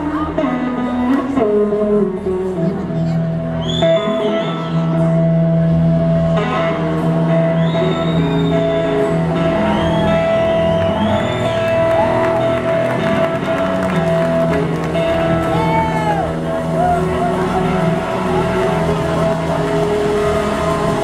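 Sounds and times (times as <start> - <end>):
band playing slow soul ballad: 0.0 - 21.0
electric slide guitar: 0.0 - 21.0.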